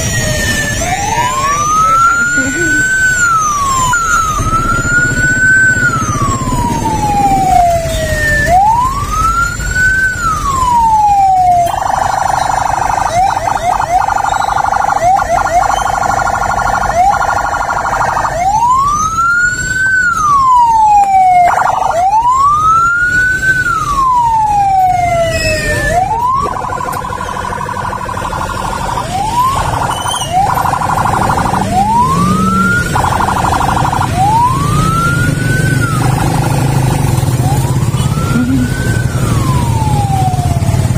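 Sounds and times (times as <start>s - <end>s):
ambulance siren: 0.0s - 40.9s
low rumble of vehicle engines: 0.0s - 40.9s.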